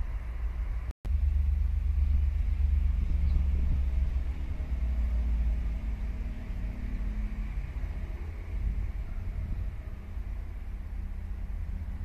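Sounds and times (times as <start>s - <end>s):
diesel locomotive engine idling: 0.0s - 12.0s.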